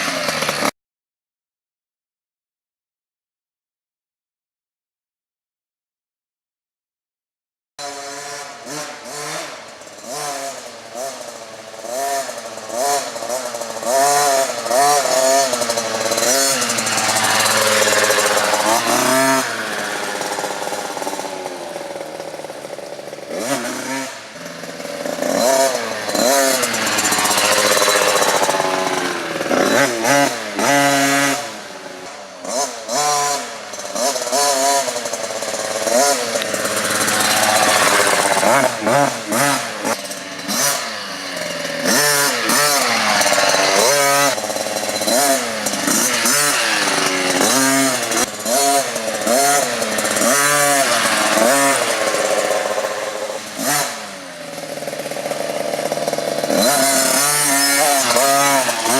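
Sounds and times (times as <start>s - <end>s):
dirt bike engine revving: 0.0s - 0.7s, 7.8s - 58.9s.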